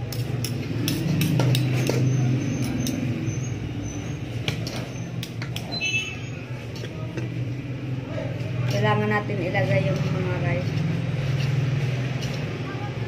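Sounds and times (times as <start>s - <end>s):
spoon clicking and scraping: 0.0s - 5.8s, 8.4s - 13.0s.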